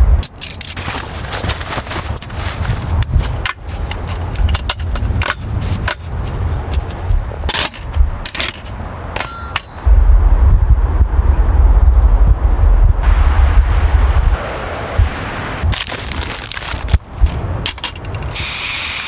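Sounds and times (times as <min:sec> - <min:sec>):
wind rumble on microphone: 0:00.0 - 0:18.6.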